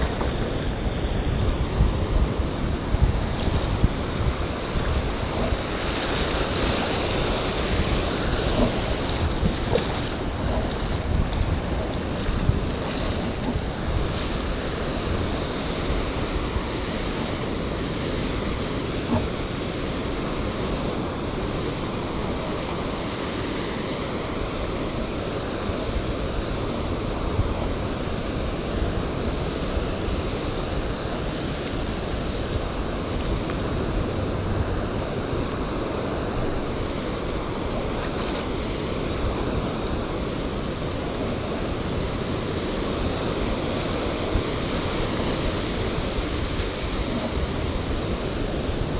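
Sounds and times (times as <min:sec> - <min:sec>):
surf washing in shallows: 0:00.0 - 0:48.9
wind buffeting microphone: 0:00.0 - 0:48.9.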